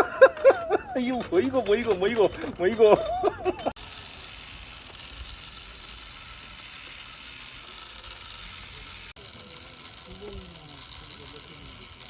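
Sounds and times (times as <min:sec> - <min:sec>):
chicken sizzling on a spit: 0:00.6 - 0:12.0.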